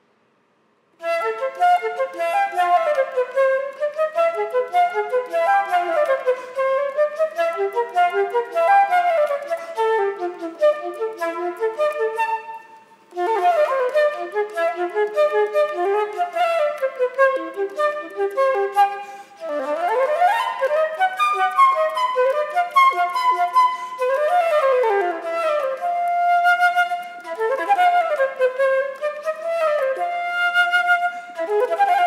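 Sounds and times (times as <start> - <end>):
flute playing fast runs: 1.0 - 32.0.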